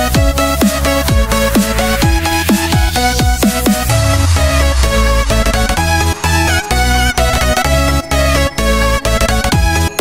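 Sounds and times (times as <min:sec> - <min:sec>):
electronic dance music: 0:00.0 - 0:09.8.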